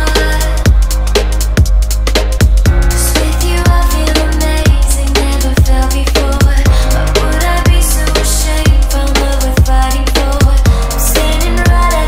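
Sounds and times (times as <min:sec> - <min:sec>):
punchy kick drums: 0:00.0 - 0:05.0, 0:05.6 - 0:12.0
electronic music with heavy bass: 0:00.0 - 0:12.0.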